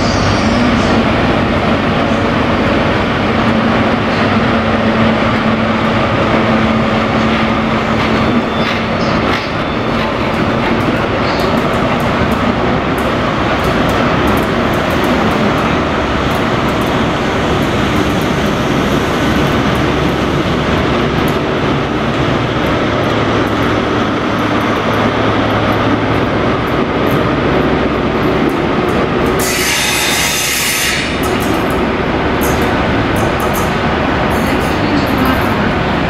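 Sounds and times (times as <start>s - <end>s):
diesel train engine drone: 0.0s - 36.0s
rumbling rail noise: 0.0s - 36.0s.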